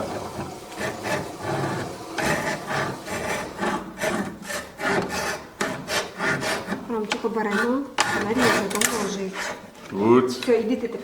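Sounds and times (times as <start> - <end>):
hand saw cutting: 0.0 - 9.9.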